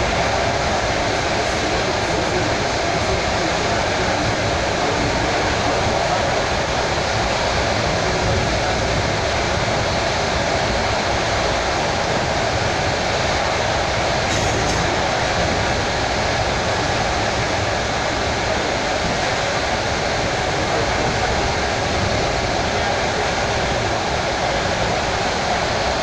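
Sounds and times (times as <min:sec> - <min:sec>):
electric train running on track: 0:00.0 - 0:26.0.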